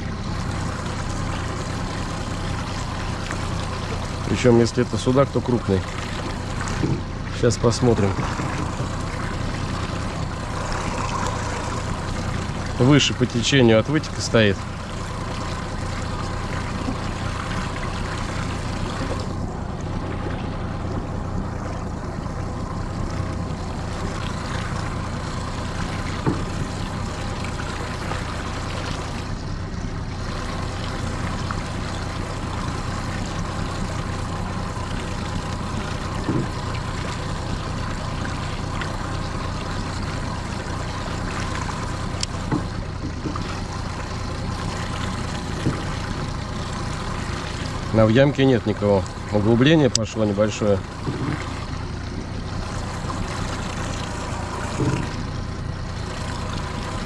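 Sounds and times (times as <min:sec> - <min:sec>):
outboard motor running: 0:00.0 - 0:57.0
water washing along hull: 0:00.0 - 0:57.0.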